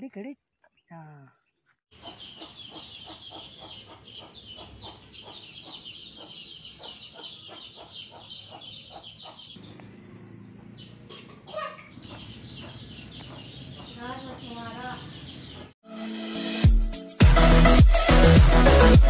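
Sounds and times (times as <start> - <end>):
birds chirping: 0.0 - 15.8.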